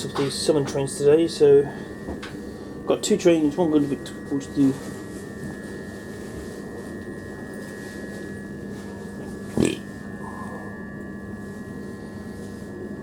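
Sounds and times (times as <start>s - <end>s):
electric train humming and whining: 0.0s - 13.0s.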